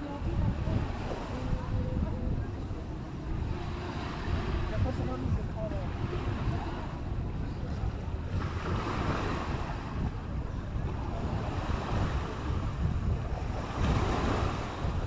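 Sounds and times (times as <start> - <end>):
small waves washing on shore: 0.0 - 15.0
wind buffeting microphone: 0.0 - 15.0.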